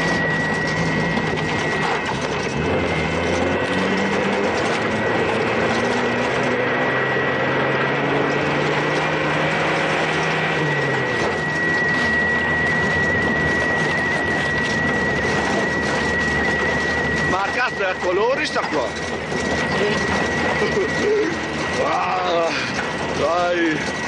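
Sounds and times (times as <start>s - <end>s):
thin high whine: 0.0s - 24.0s
vehicle engine hum while driving: 0.0s - 24.0s.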